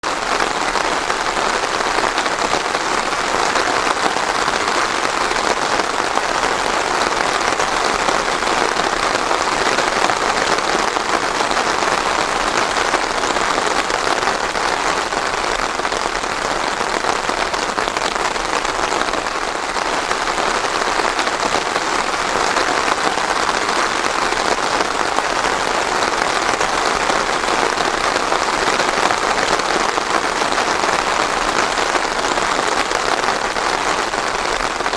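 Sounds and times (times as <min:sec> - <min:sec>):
rain pattering on a surface: 0:00.0 - 0:34.9.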